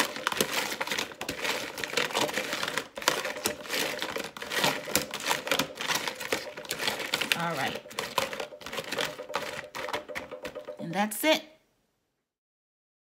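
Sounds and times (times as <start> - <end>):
crab shells clattering in plastic tub: 0.0 - 10.9.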